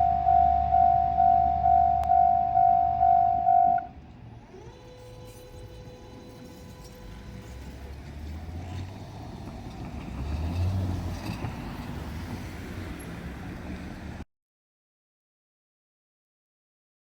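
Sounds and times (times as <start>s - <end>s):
diesel train engine rumbling: 0.0s - 14.2s.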